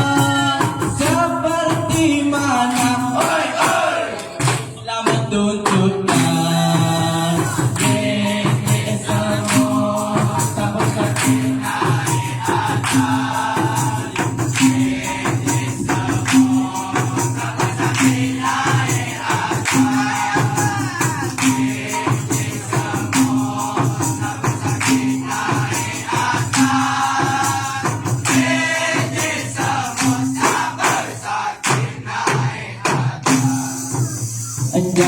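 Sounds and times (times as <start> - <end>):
chorus singing: 0.0 - 35.0
frame drums and maracas: 0.0 - 35.0
lead singer singing: 0.0 - 35.0.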